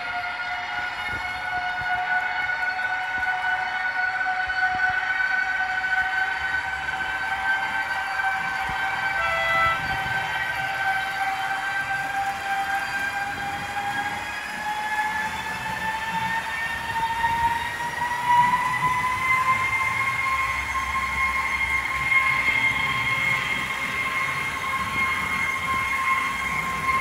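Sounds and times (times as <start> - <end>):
model train rumbling on track: 0.0 - 27.0
electric motor whine rising: 4.3 - 27.0.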